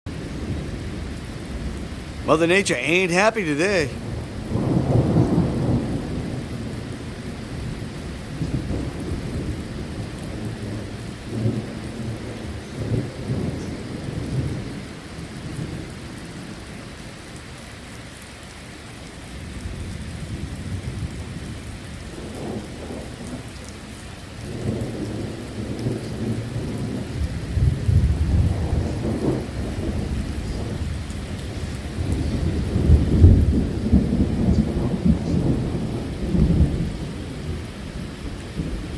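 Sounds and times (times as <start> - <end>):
steady rain: 0.1 - 38.9.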